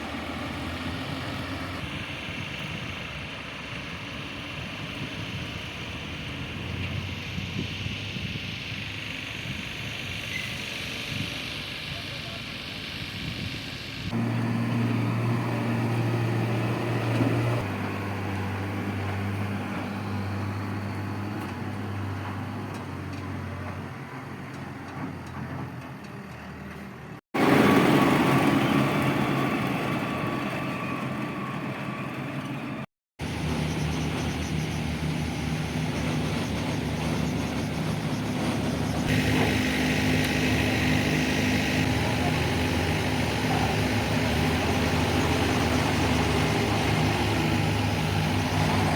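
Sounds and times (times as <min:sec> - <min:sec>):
heavy diesel engines running: 0:00.0 - 0:48.9.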